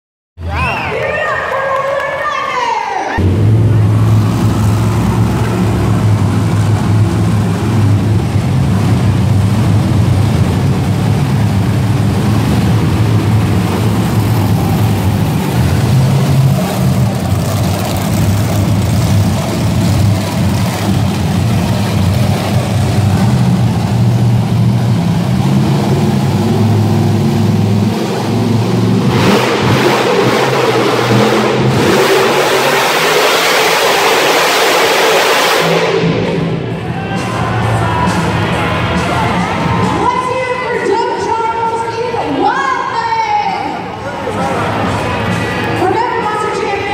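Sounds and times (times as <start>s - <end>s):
monster truck engines revving: 0.4s - 2.5s, 3.1s - 46.9s.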